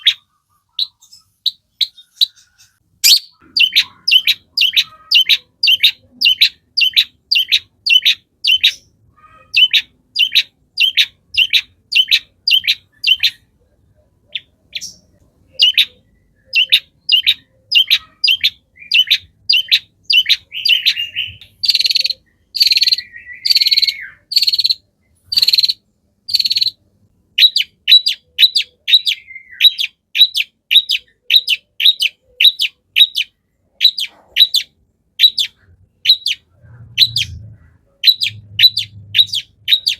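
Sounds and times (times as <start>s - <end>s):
bird harsh calls: 0.0s - 26.8s, 27.4s - 39.9s.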